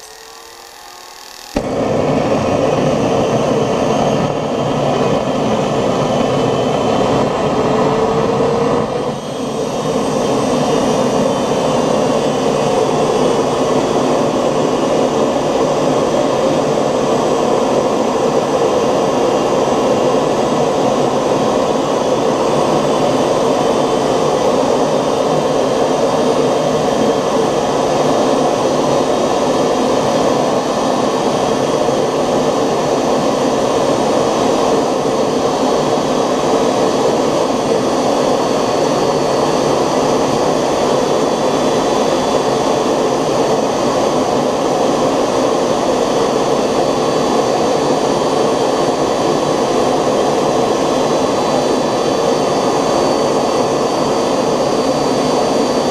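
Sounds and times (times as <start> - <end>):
model gas turbine rushing whine: 0.0 - 55.9.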